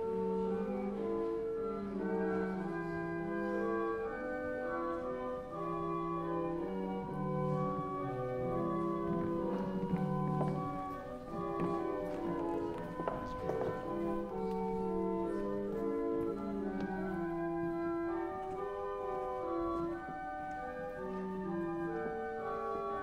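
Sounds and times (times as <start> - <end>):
pipe organ playing slow music: 0.0 - 23.0.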